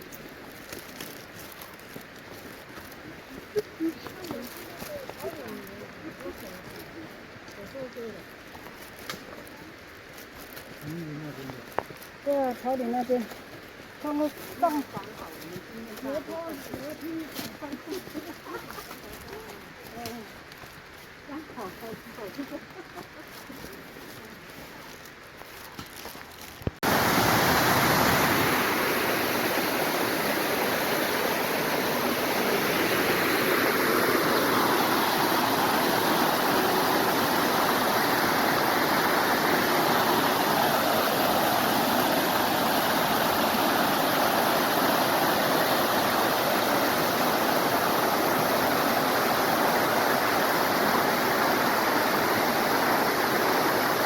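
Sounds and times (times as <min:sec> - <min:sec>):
stream water rushing: 0:00.0 - 0:10.8, 0:11.5 - 0:25.3, 0:26.8 - 0:54.0.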